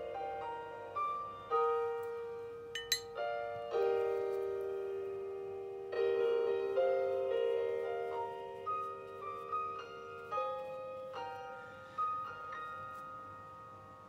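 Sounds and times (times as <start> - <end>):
gentle solo piano music: 0.0 - 14.0.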